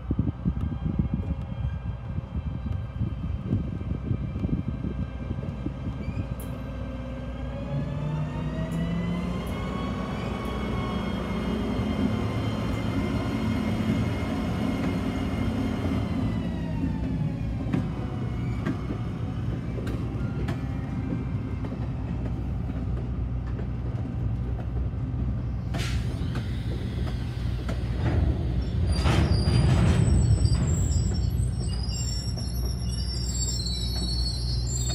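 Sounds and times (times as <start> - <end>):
train wheels rumbling on rails: 0.0 - 34.9
locomotive diesel engine: 5.0 - 34.9.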